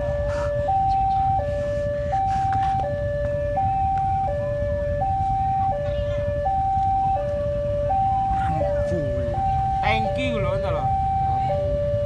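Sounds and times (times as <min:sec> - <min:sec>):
level crossing two-tone alarm: 0:00.0 - 0:12.0.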